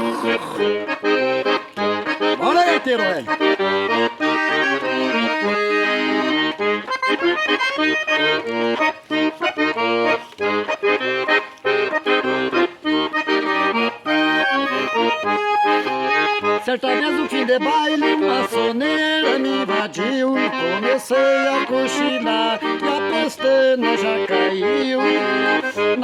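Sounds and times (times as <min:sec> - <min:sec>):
accordion playing: 0:00.0 - 0:26.0.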